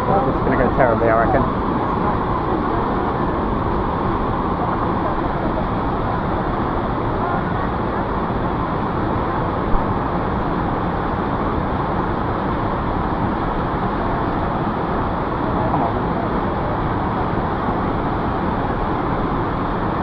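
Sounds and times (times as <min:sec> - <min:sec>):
rushing water roar: 0:00.0 - 0:20.0.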